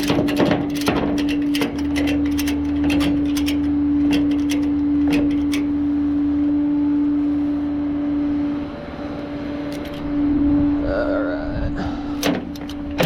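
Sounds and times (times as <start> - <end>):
tow truck engine droning: 0.0 - 13.0.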